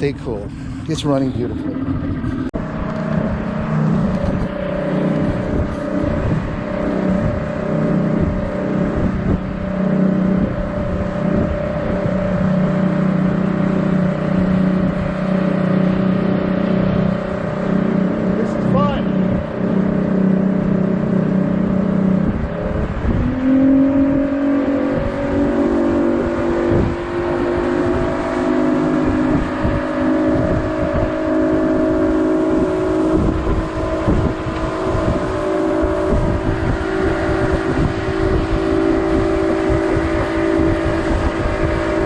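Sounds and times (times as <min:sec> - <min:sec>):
outboard motor running: 0:00.0 - 0:42.0
wind buffeting microphone: 0:00.0 - 0:42.0.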